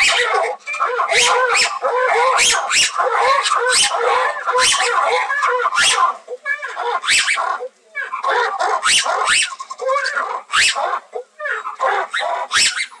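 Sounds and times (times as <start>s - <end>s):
animal chattering: 0.0s - 13.0s
animal squeaky calls: 0.0s - 13.0s.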